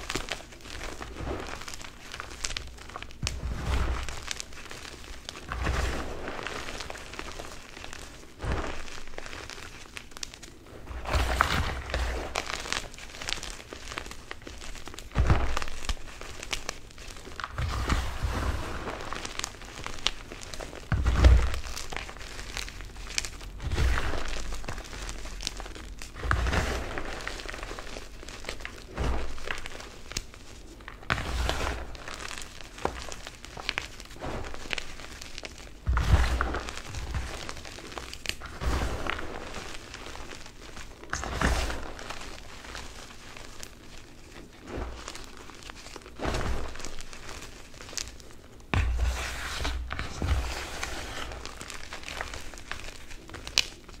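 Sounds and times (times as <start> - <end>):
chalk crunching by hand: 0.0 - 53.8.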